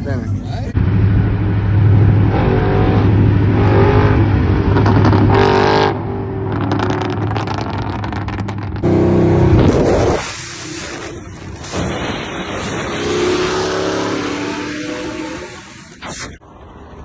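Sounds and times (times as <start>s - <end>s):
car engine revving: 0.1s - 16.4s.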